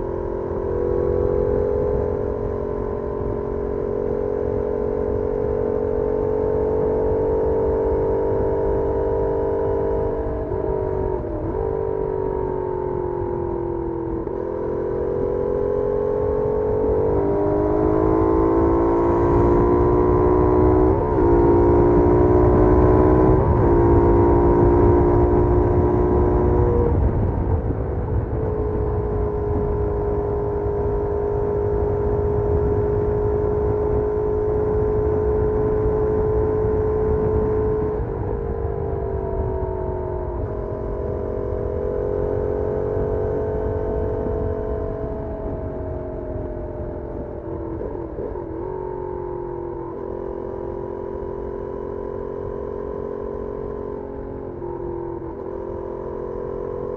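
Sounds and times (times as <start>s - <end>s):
motorcycle engine running: 0.0s - 56.9s
wind rumble on microphone: 0.0s - 56.9s.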